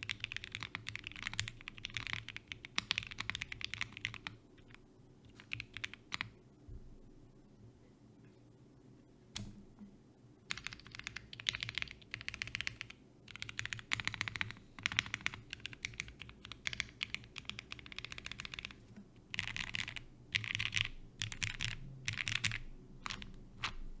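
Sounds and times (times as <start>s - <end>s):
mechanical keyboard typing: 0.0s - 6.3s, 10.5s - 23.8s.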